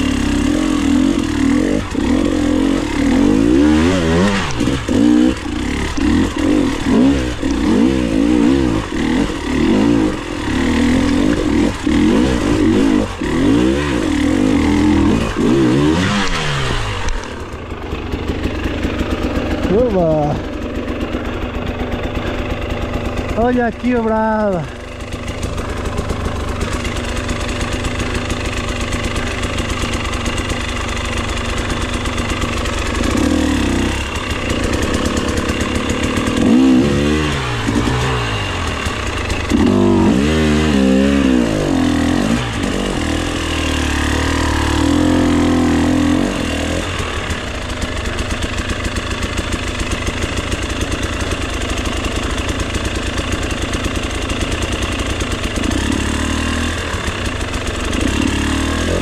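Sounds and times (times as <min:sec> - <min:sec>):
motorcycle engine idling: 0:00.0 - 0:59.0
motorcycle engine revving: 0:00.0 - 0:59.0.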